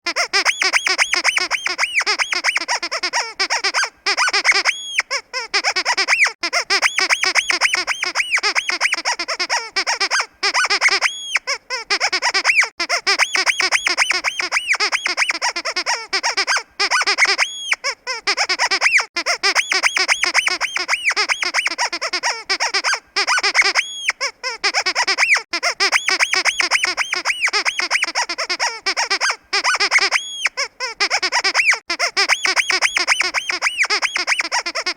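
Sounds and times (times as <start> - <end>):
squeaky dog toy squeaking: 0.1 - 34.9.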